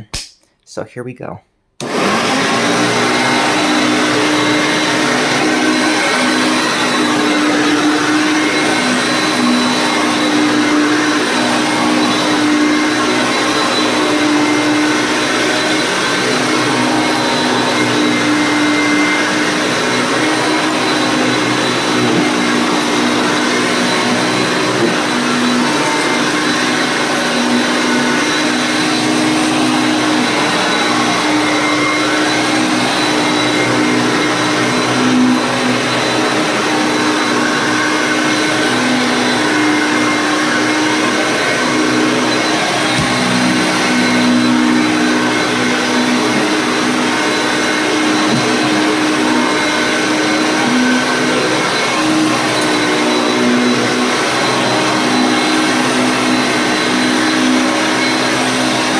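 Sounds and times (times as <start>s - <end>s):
upright vacuum running on carpet: 1.8s - 58.9s.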